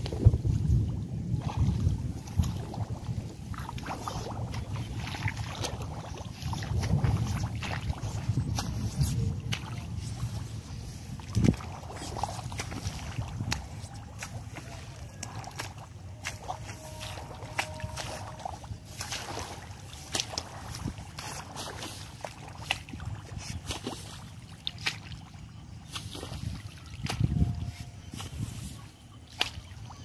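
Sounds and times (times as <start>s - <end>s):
water splashing and sloshing in mud: 0.0s - 30.0s.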